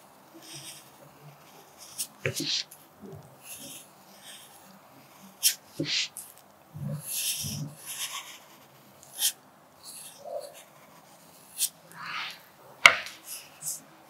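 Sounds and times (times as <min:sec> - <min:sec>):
pencil scratching on paper: 0:00.4 - 0:02.8, 0:03.5 - 0:06.2, 0:07.0 - 0:13.8.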